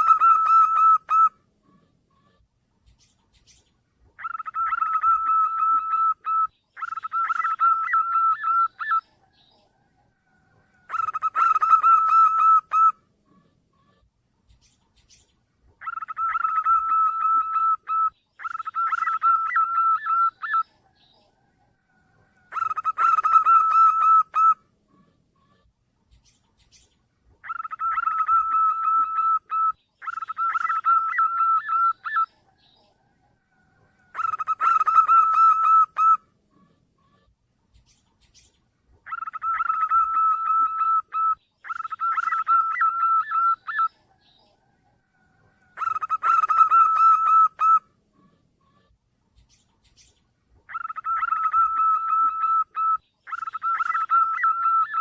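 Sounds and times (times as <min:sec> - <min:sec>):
dove cooing: 0:00.0 - 0:03.6, 0:04.2 - 0:09.2, 0:10.2 - 0:26.8, 0:27.4 - 0:55.0.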